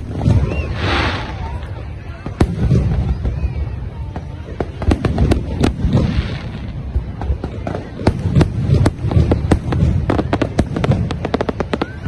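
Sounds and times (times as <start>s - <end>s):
fireworks bangs and crackles: 0.0s - 12.0s
voices of people: 0.0s - 12.0s.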